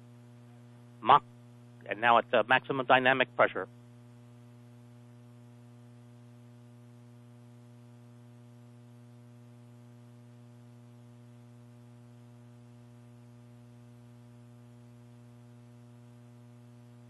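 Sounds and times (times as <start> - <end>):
faint electrical mains hum: 0.0 - 17.0.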